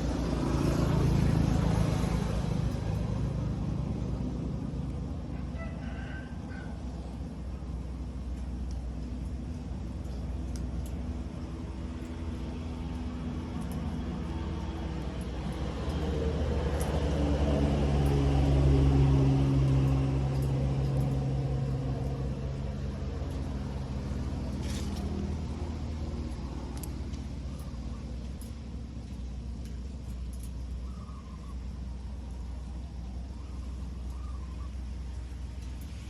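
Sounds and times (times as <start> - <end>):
vehicle engine rumble passing by: 0.0 - 36.0.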